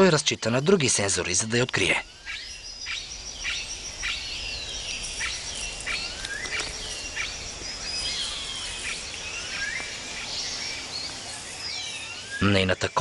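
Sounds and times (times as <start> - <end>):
high insect buzz: 2.0 - 12.5.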